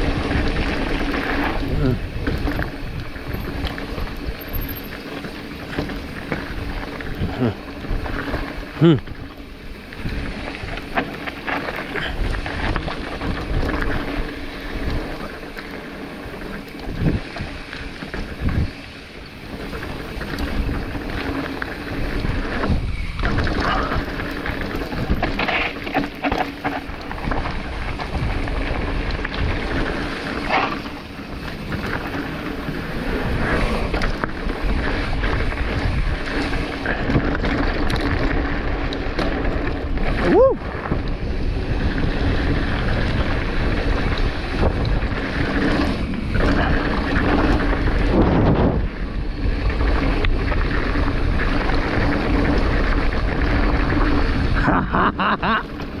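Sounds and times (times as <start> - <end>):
wind buffeting microphone: 0.0 - 15.5, 16.2 - 56.0
bike knocks and rattles: 0.0 - 56.0
tyre and trail noise: 0.0 - 56.0.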